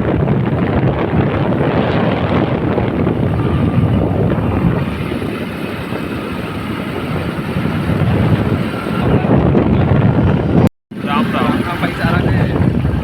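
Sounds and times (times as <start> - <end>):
motorcycle engine: 0.0 - 13.0
road noise: 0.0 - 13.0
wind rushing over microphone: 0.0 - 13.0.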